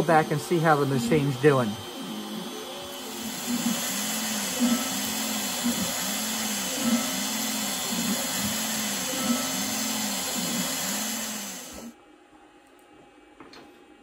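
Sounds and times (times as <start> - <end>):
router carving plywood: 0.0 - 11.9.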